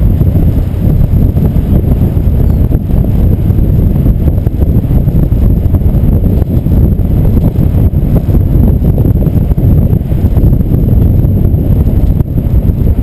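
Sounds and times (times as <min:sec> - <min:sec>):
vehicle road noise: 0:00.0 - 0:13.0
wind buffeting microphone: 0:00.0 - 0:13.0.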